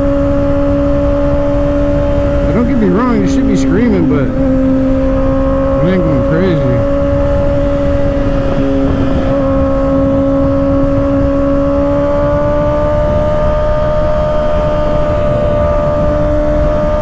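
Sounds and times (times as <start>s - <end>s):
motorcycle engine at high revs: 0.0s - 17.0s
wind noise: 0.0s - 17.0s.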